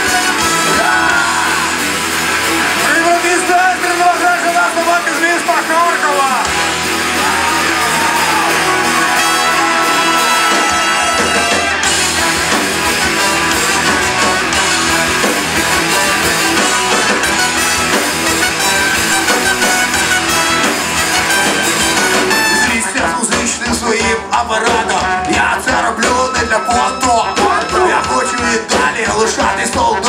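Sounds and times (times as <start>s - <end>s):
bass and drums: 0.0s - 30.0s
brass horns: 0.0s - 30.0s
rock band playing: 0.0s - 30.0s.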